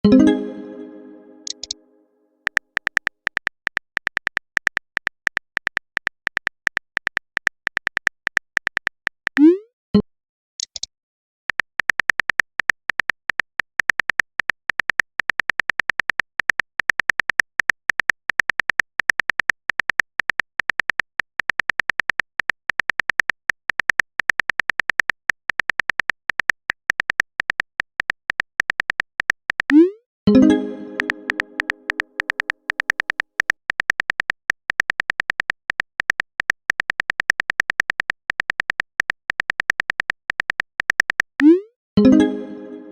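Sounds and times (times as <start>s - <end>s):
keyboard typing clicks: 0.0s - 1.8s, 2.5s - 9.6s, 11.5s - 42.9s.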